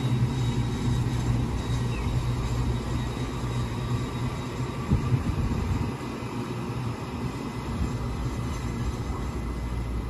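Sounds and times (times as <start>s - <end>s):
electric train low hum: 0.0s - 10.0s
thin high whine: 0.0s - 10.0s.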